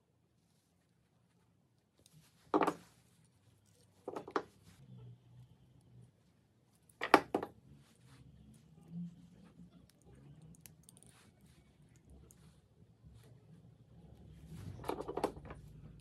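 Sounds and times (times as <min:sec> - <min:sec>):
faint handling rustle: 0:00.3 - 0:13.6.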